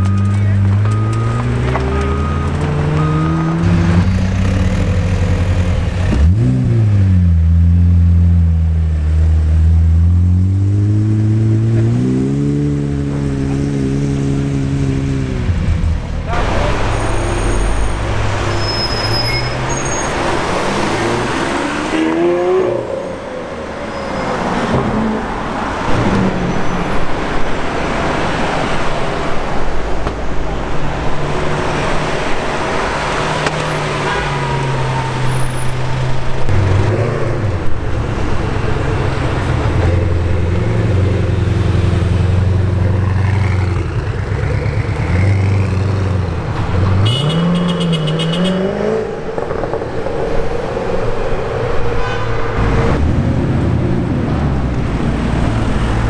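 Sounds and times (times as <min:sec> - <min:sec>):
sports car engines revving: 0:00.0 - 0:56.0.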